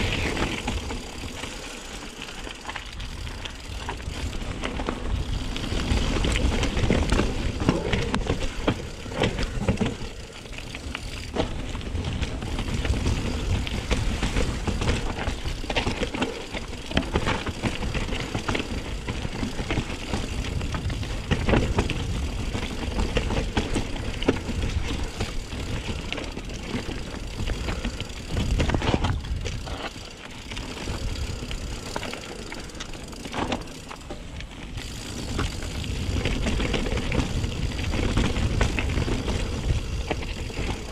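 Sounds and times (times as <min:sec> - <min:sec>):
bike knocks and rattles: 0:00.0 - 0:40.9
bike tyres on gravel: 0:00.0 - 0:40.9.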